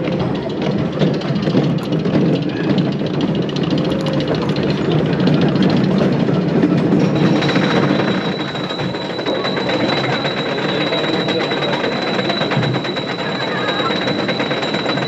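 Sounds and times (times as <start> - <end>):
roller coaster rattling on track: 0.0 - 15.0.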